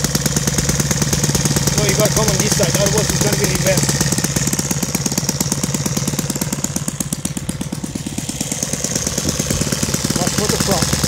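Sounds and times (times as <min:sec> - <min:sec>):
model airplane engine idling: 0:00.0 - 0:11.0.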